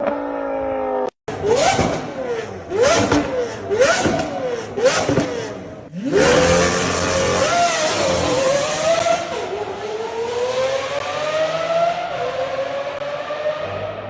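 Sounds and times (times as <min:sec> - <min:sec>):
car engine accelerating hard: 0:01.3 - 0:14.0.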